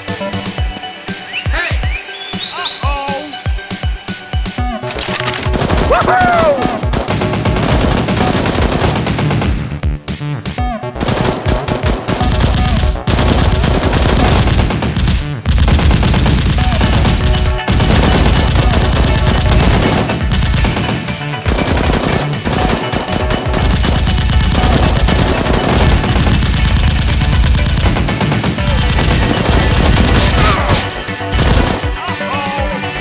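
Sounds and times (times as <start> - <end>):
automatic gunfire: 4.8 - 9.8, 10.9 - 32.6.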